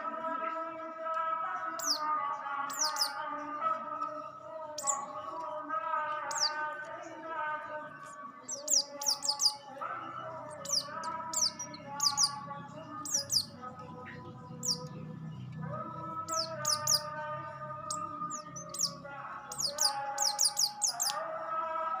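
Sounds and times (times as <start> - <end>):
songbird chirping rapidly: 1.7 - 7.2, 7.8 - 21.4.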